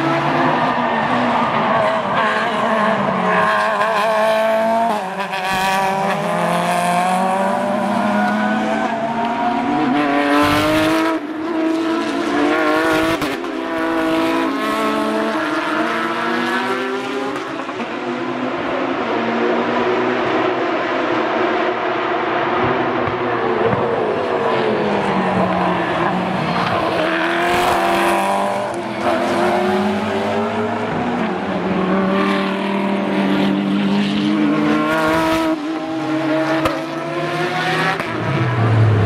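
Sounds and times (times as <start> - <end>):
race car engines passing: 0.0 - 39.0.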